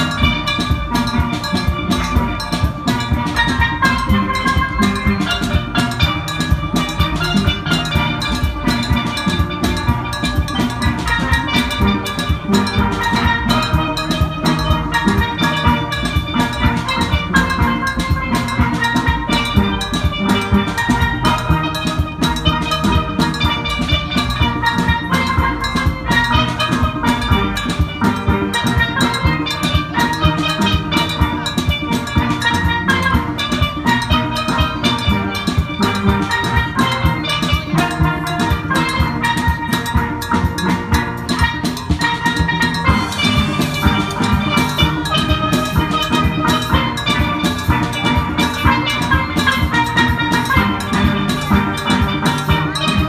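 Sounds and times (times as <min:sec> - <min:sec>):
drums keeping beat: 0:00.0 - 0:53.0
steel pans playing melody: 0:00.0 - 0:53.0.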